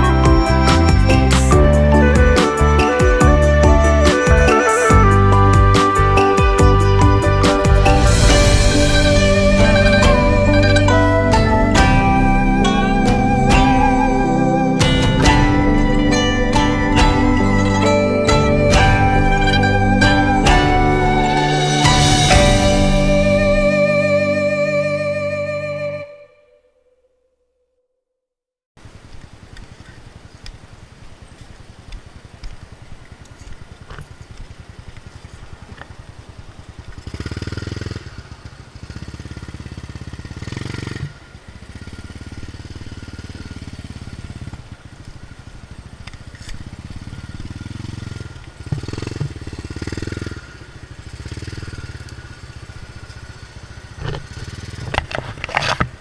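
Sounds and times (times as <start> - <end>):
motorcycle engine running: 0.0 - 26.0, 31.2 - 56.0.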